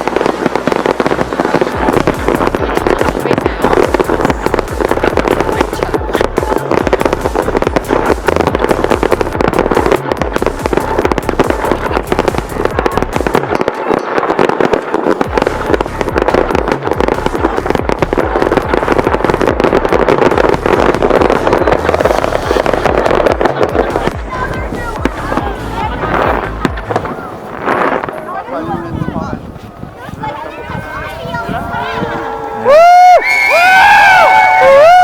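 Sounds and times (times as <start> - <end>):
fireworks banging and crackling: 0.0 - 35.0.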